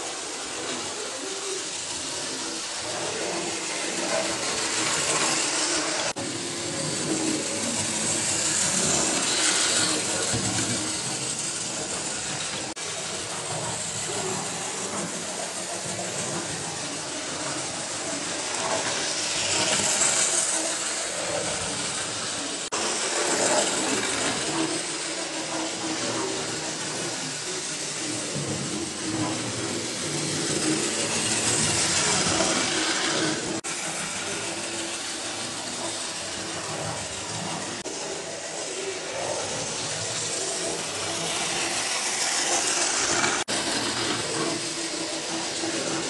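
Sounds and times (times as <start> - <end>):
model train wheels rattling on track: 0.0 - 46.0.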